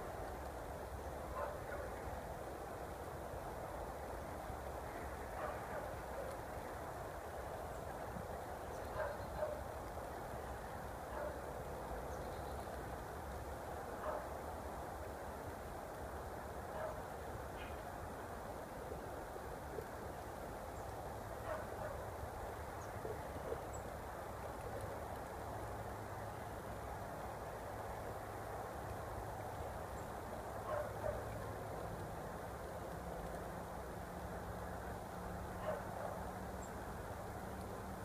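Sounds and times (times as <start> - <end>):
outdoor background noise: 0.0 - 38.0.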